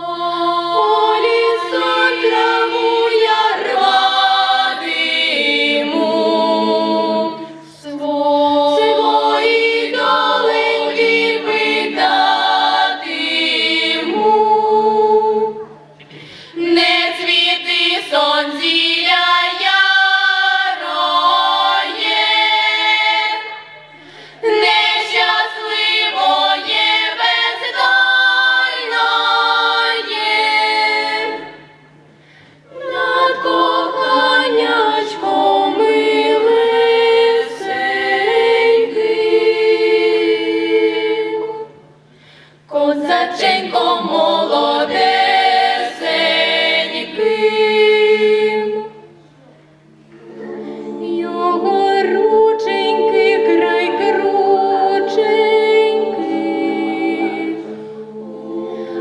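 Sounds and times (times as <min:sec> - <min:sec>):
girls singing a cappella harmony: 0:00.0 - 0:49.2, 0:49.8 - 0:59.0.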